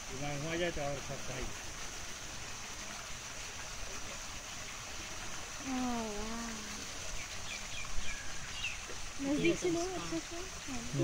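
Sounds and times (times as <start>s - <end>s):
waterfall pouring into pool: 0.0s - 11.0s.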